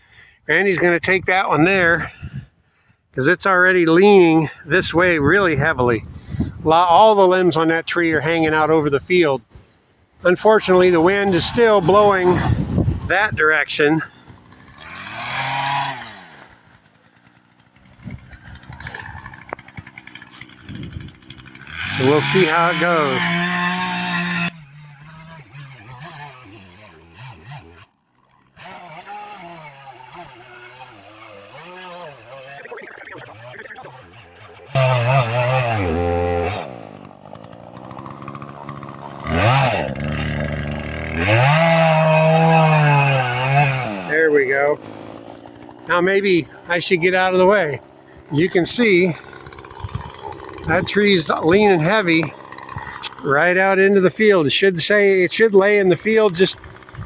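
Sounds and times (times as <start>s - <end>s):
chainsaw revving: 10.4s - 57.0s.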